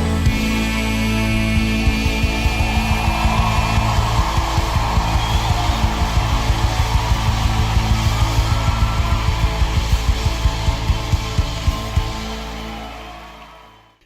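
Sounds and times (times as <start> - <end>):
drums keeping a steady beat: 0.0 - 13.2
sustained guitar chords: 0.0 - 13.7.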